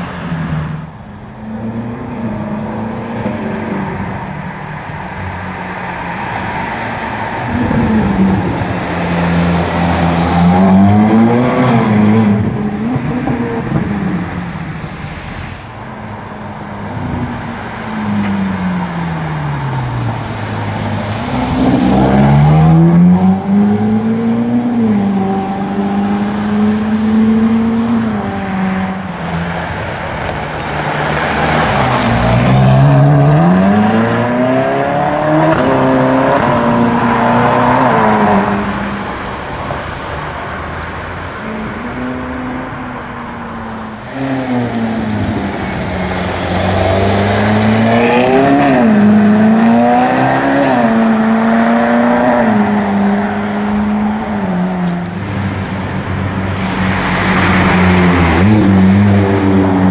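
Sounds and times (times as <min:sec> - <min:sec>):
car engine revving: 0:05.8 - 0:15.4, 0:16.9 - 0:59.9.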